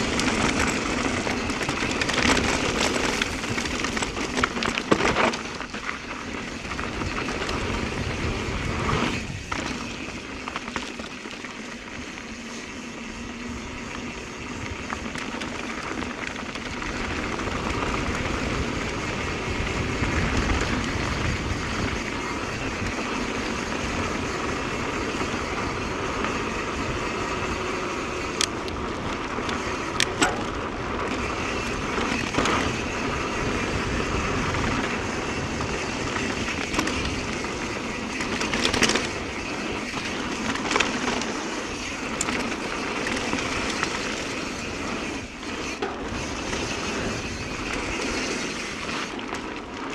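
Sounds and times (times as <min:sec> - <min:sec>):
bike tyres rolling on dirt: 0:00.0 - 0:49.9.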